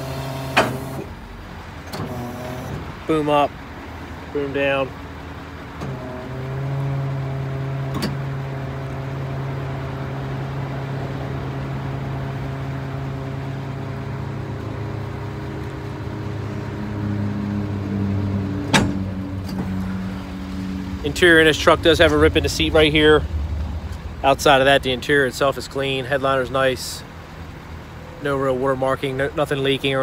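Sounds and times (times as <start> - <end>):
hydraulic pump humming: 0.0 - 24.3.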